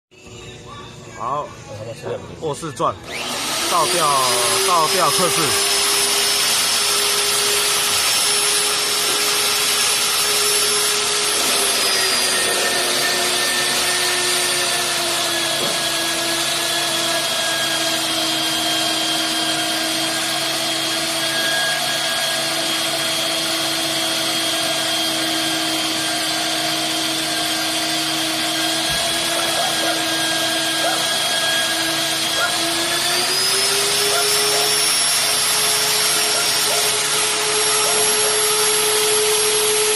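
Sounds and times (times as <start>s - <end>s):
electric drill whining: 3.0s - 39.9s.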